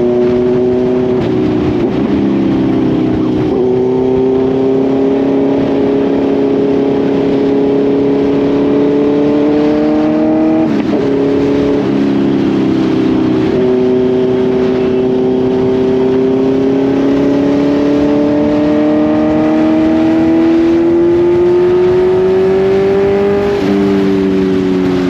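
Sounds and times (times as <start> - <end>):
motorcycle engine and exhaust: 0.0 - 25.0.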